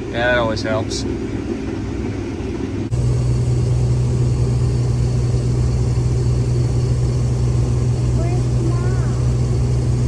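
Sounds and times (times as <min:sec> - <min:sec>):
combine harvester droning: 0:00.0 - 0:10.0
even low hum: 0:00.0 - 0:10.0.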